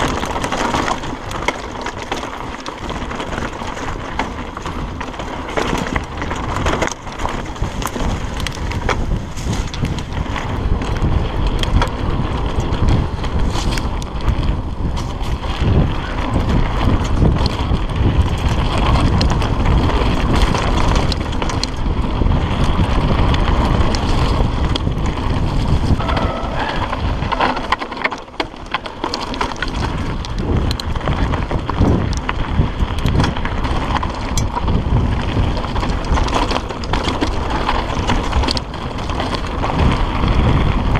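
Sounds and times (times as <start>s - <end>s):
bike rattling and knocking: 0.0s - 40.9s
tyres rumbling on dirt and stones: 0.0s - 40.9s
wind buffeting microphone: 0.0s - 40.9s.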